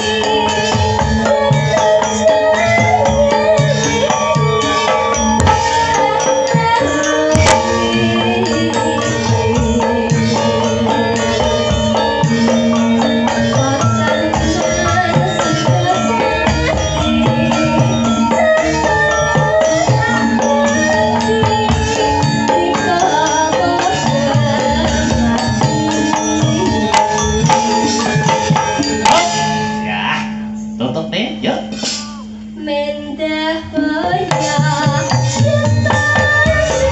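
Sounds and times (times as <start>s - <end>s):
woman singing through microphone: 0.0s - 29.2s, 32.6s - 36.9s
gamelan ensemble playing: 0.0s - 32.6s, 34.2s - 36.9s
drum strokes: 0.0s - 32.7s, 34.0s - 36.9s
metallophone notes: 0.0s - 36.9s.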